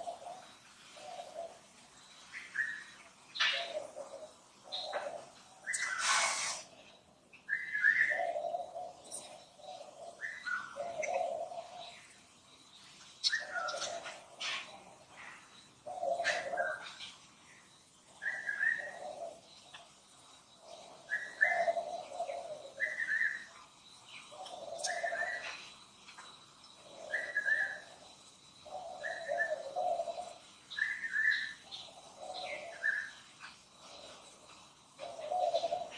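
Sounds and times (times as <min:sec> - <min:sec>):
bird calling: 0:00.0 - 0:35.9.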